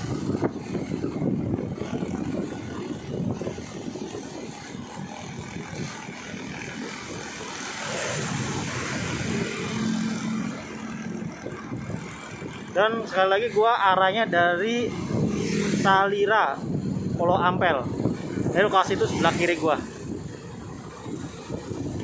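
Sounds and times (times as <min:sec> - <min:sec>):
motorcycle engine hum: 0:00.0 - 0:22.0
road and wind noise: 0:00.0 - 0:22.0.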